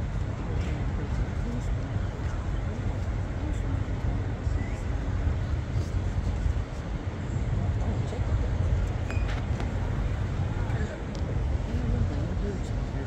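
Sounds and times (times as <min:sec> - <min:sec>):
crowd murmur: 0:00.0 - 0:13.0
wind on microphone: 0:00.0 - 0:13.0.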